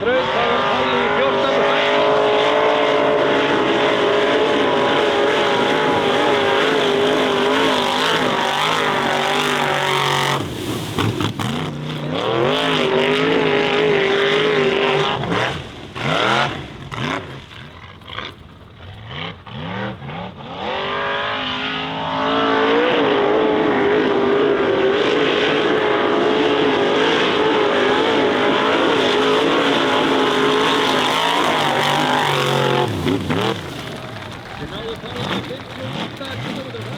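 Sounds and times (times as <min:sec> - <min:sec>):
buggy engine revving: 0:00.0 - 0:36.9.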